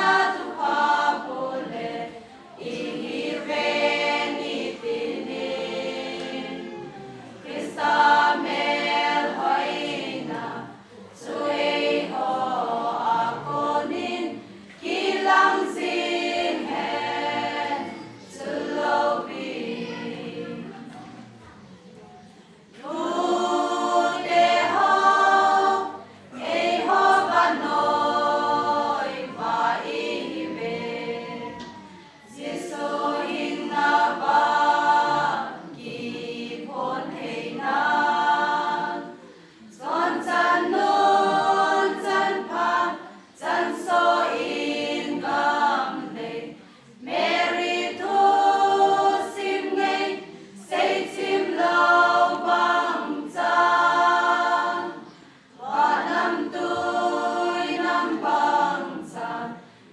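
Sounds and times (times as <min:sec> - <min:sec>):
women's choir singing unaccompanied: 0:00.0 - 0:59.9.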